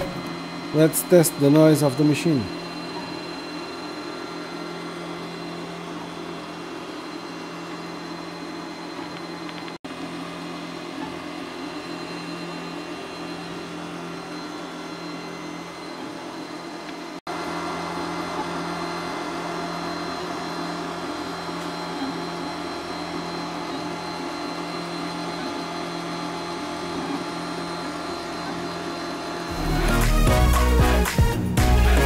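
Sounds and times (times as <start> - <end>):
printer mechanical hum: 0.0 - 29.8.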